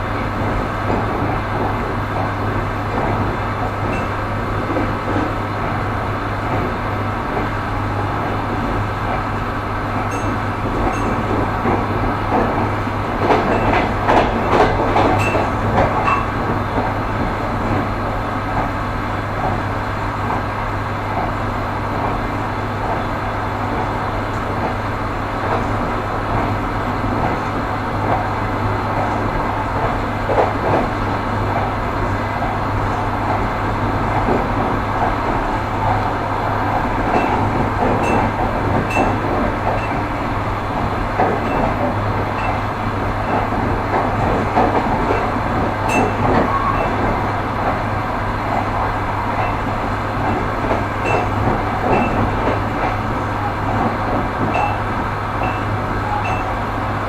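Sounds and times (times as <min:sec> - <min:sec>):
train wheels rumbling: 0:00.0 - 0:57.0
wheels clattering over rail joints: 0:00.0 - 0:57.0.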